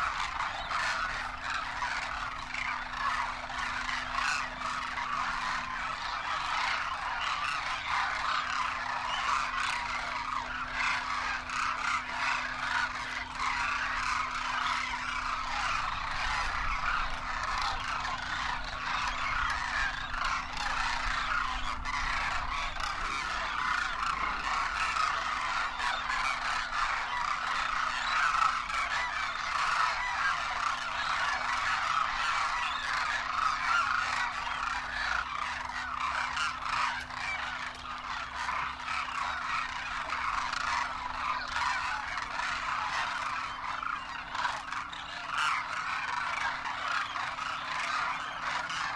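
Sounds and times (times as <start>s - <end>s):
flock of cranes calling: 0.0s - 48.9s.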